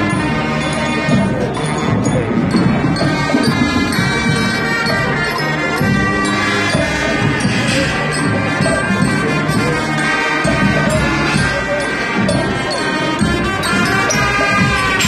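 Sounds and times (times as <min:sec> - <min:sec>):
marching band brass notes: 0:00.0 - 0:15.0
steady drumbeat: 0:00.0 - 0:15.0.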